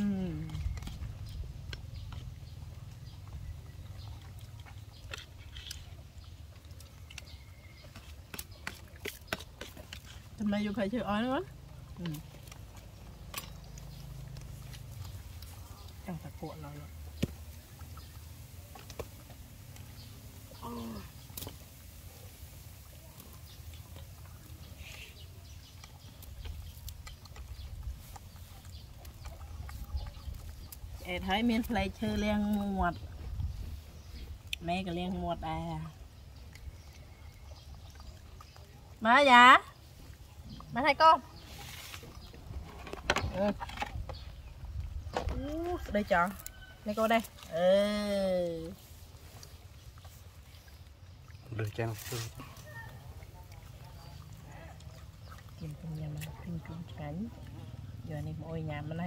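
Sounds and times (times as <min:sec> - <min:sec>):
close chewing: 0:00.0 - 0:35.1, 0:35.7 - 0:58.4
monkeys eating off plastic plate: 0:00.0 - 0:58.6.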